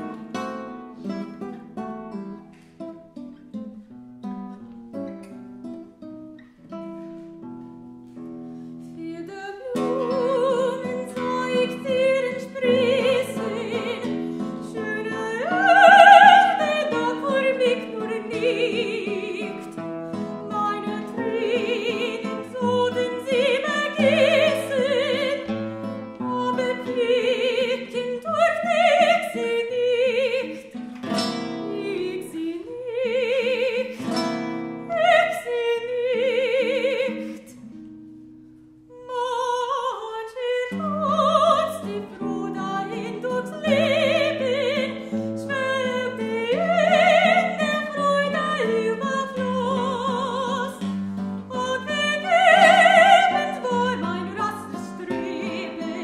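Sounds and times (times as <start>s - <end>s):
classical guitar plucking: 0.0s - 56.0s.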